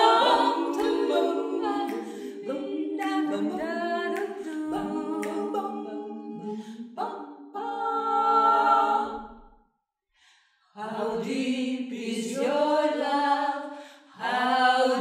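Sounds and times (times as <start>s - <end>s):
female vocal quartet singing: 0.0s - 9.6s, 10.7s - 15.0s.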